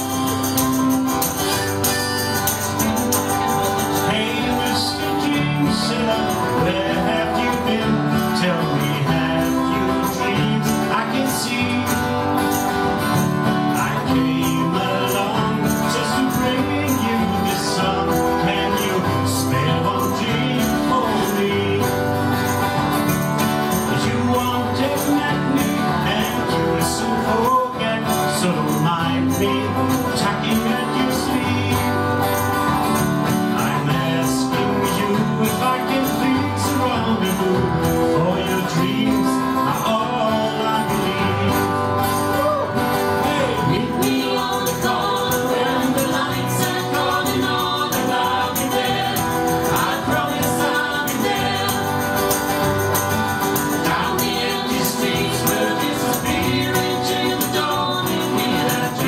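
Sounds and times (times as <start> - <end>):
person singing: 0.0 - 12.7, 13.6 - 22.3, 23.2 - 32.4, 33.3 - 59.0
guitars strummed: 0.0 - 59.0.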